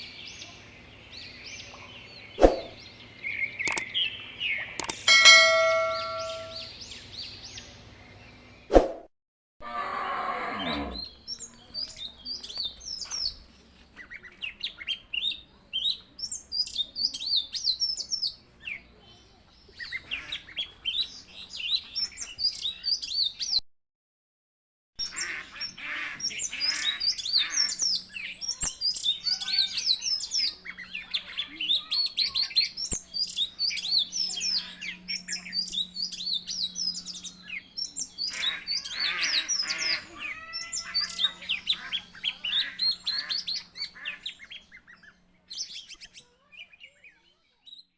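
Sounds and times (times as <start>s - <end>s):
flock of small birds chirping: 0.0s - 8.6s, 10.4s - 23.5s, 25.0s - 47.9s.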